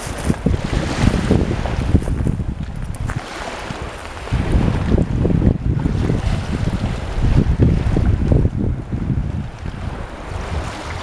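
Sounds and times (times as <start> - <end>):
faint surf washing: 0.0 - 11.0
wind buffeting microphone: 0.0 - 11.0.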